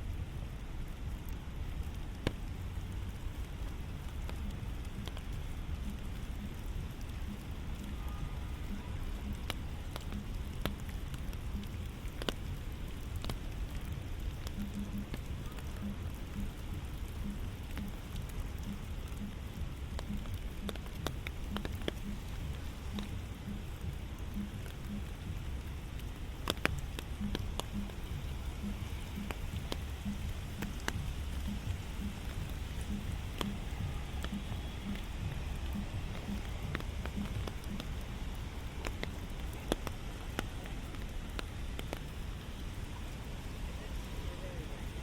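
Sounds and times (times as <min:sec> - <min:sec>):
sharp raindrops striking close: 0:00.0 - 0:45.0
steady rain falling: 0:00.0 - 0:45.0.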